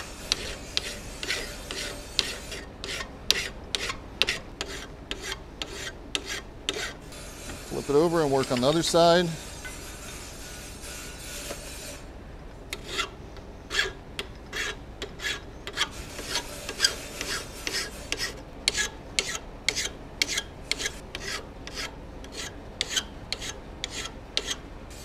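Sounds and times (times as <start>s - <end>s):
hand file rasping on steel: 0.0s - 12.1s, 12.7s - 24.6s.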